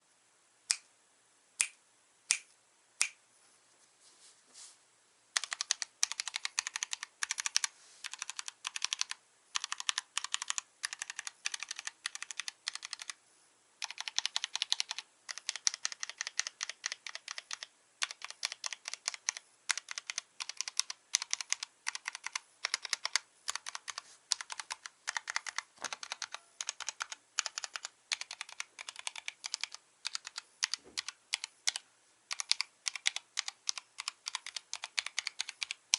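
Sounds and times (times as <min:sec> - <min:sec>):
typing on mechanical keyboard: 0:05.4 - 0:13.2, 0:13.8 - 0:35.9.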